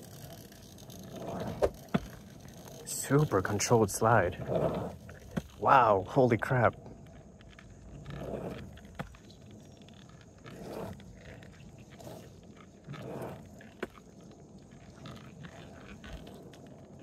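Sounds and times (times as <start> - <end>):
skateboard rolling on wet asphalt: 0.0 - 17.0
skateboard trucks squeaking: 0.0 - 17.0.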